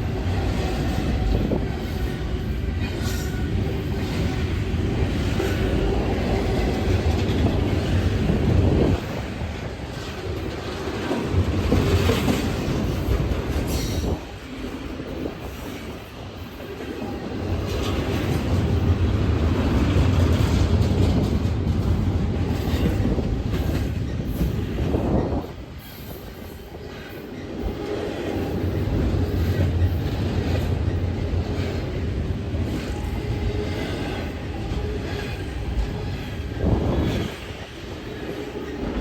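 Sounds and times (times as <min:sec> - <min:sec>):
train wheel squeal: 0:00.0 - 0:19.2, 0:19.8 - 0:39.0
freight train wheels clacking: 0:00.0 - 0:39.0.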